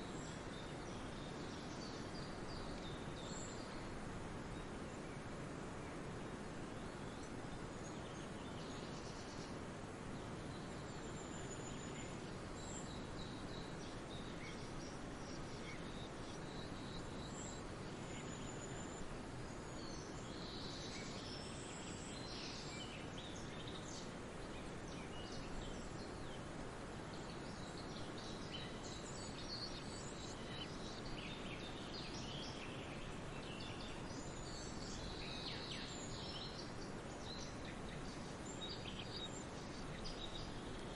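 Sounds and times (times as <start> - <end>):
distant rushing water: 0.0 - 40.9
small birds chirping: 0.0 - 40.9
wind: 0.0 - 40.9.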